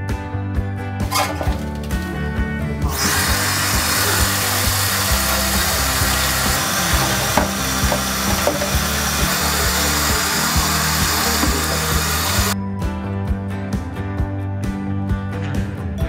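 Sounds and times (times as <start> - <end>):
music with bass line and beat: 0.0 - 16.0.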